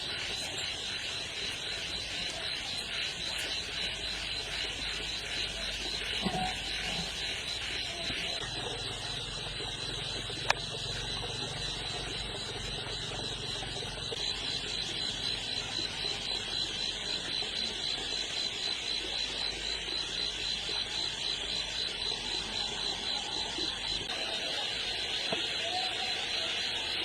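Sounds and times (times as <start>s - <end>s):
insects pulsing chirr: 0.0s - 27.0s.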